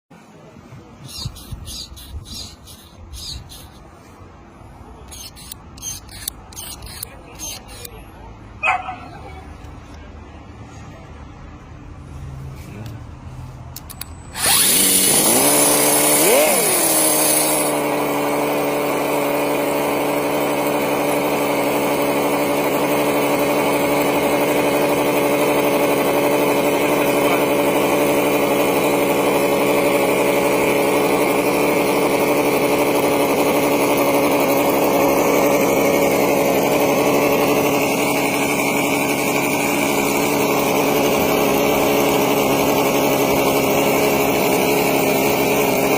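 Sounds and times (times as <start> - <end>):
small rc motor running: 1.0 - 4.0, 5.0 - 8.0, 13.8 - 45.9.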